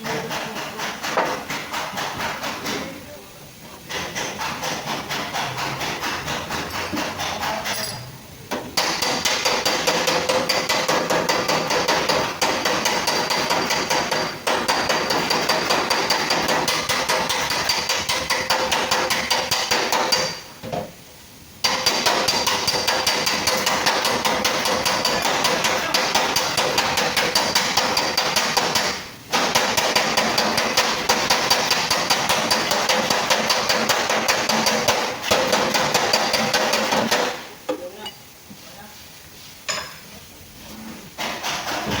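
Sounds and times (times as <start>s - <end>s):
hammering on sheet metal: 0.0s - 3.0s, 3.9s - 20.5s, 21.6s - 37.5s, 41.2s - 42.0s.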